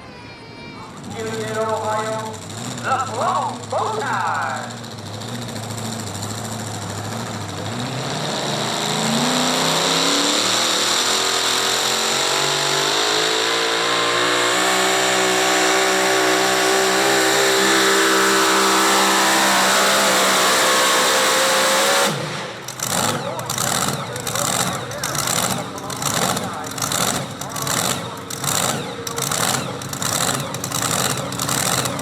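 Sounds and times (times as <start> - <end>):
truck engine at full throttle: 0.8 - 32.0.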